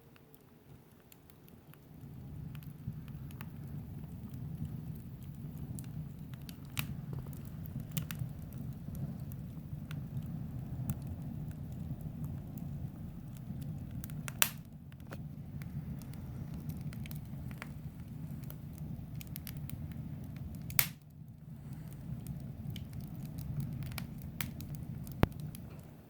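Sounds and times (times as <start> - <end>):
low rush of flame: 0.0 - 26.0
wood crackling and popping: 0.0 - 26.0.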